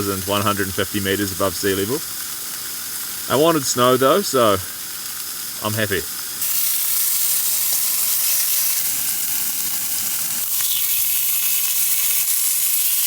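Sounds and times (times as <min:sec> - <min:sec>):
burger patties sizzling: 0:00.0 - 0:13.0.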